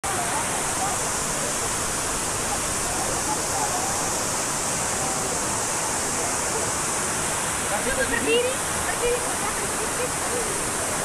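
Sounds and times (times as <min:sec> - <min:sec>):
fountain water rushing: 0:00.0 - 0:11.0.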